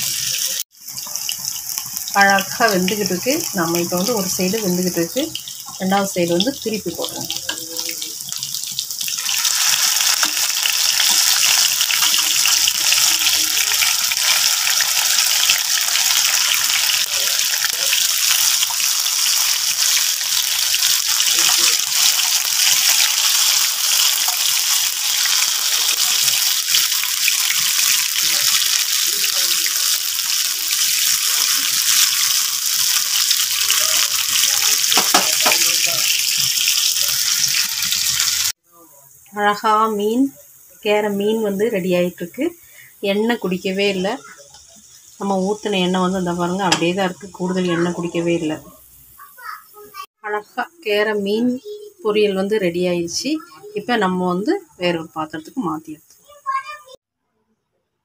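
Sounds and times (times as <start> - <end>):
fish sizzling in hot oil: 0.0 - 38.6, 39.6 - 50.1.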